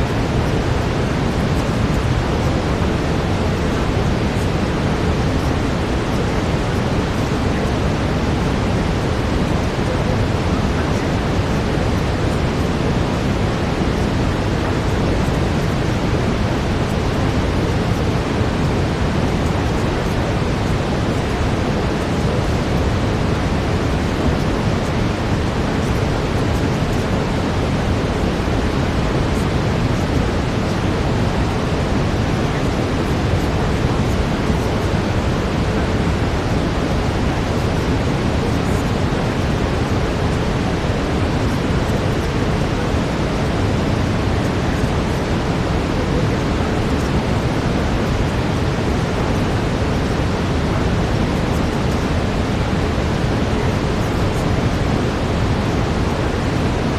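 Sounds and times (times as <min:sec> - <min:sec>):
brown noise hiss: 0:00.0 - 0:56.9.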